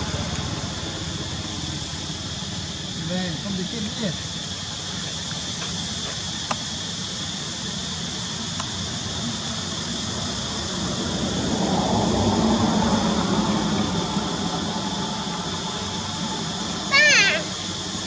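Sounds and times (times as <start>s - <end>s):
constant high hum: 0.0s - 18.0s.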